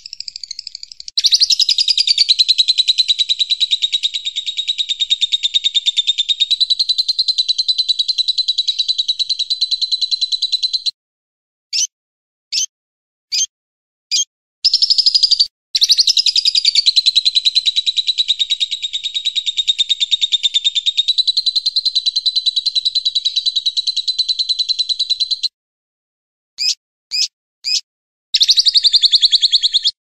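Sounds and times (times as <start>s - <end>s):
fast bird trill: 0.0s - 11.0s, 11.7s - 11.9s, 12.5s - 12.7s, 13.3s - 13.5s, 14.1s - 25.5s, 26.6s - 27.8s, 28.4s - 30.0s
songbird chirps: 0.0s - 11.0s, 11.7s - 11.9s, 12.5s - 12.7s, 13.3s - 13.5s, 14.1s - 25.5s, 28.4s - 30.0s.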